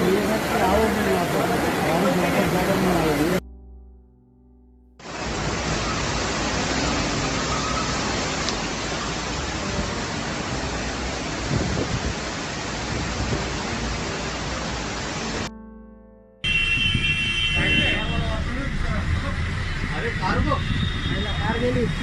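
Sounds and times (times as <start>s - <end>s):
rushing water: 0.0s - 3.4s, 5.0s - 15.5s, 16.5s - 22.0s.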